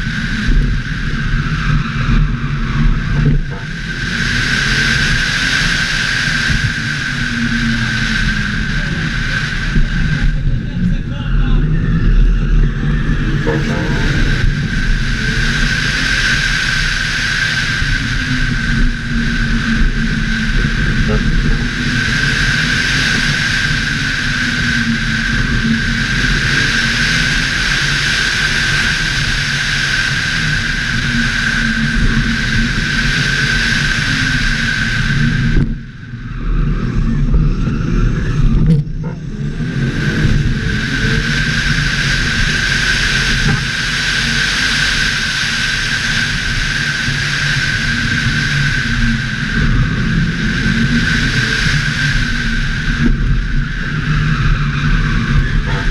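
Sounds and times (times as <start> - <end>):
high whine: 0.0 - 55.9
race car engine running hard: 0.0 - 55.9
road noise: 0.0 - 55.9.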